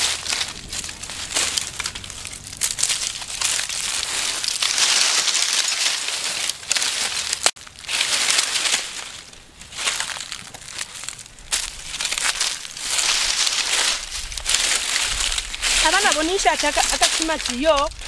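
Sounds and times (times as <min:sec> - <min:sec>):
dry leaves and twigs crunching: 0:00.0 - 0:18.0.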